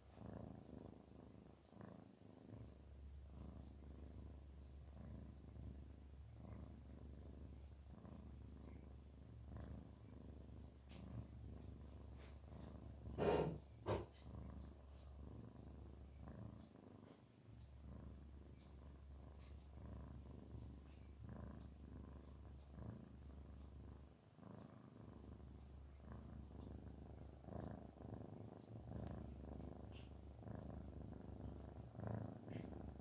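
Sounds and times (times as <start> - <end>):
cat purring: 0.0 - 33.0.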